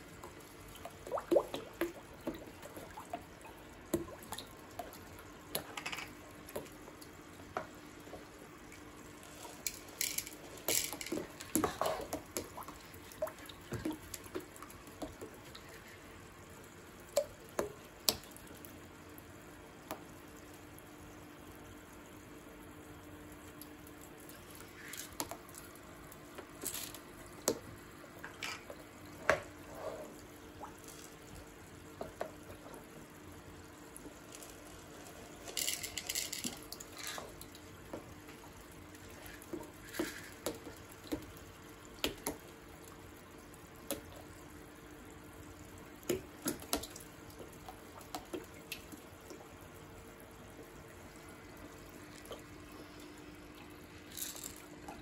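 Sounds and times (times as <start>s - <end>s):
water dripping and splashing: 0.0s - 20.5s, 22.9s - 29.6s, 30.2s - 53.8s.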